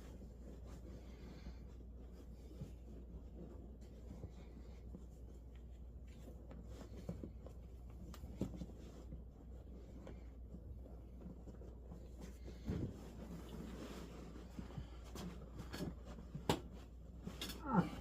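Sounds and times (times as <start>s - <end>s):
hands scratching and rustling upholstery: 0.0s - 18.0s.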